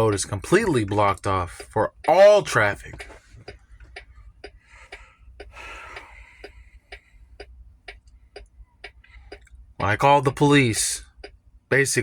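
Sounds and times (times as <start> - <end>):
low steady rumble: 0.0 - 12.0
turn signal ticking: 0.0 - 12.0.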